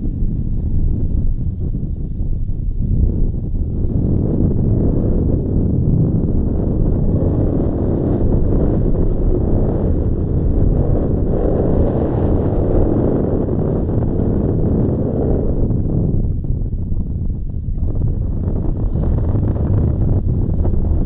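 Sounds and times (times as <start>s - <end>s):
strong wind blowing: 0.0s - 21.0s.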